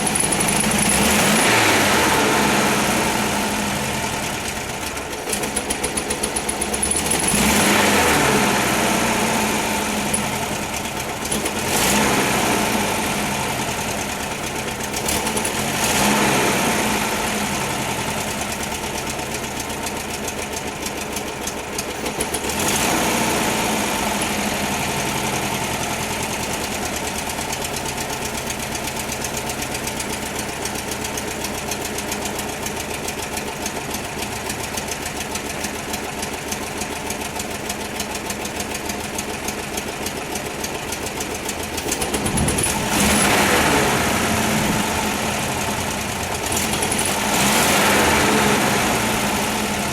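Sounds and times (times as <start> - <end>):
car engine revving and idling: 0.0 - 49.9.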